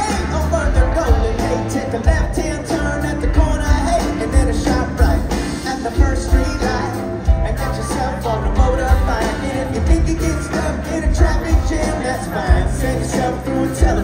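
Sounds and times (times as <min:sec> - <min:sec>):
person singing: 0:00.0 - 0:14.0
pop-rock band playing: 0:00.0 - 0:14.0.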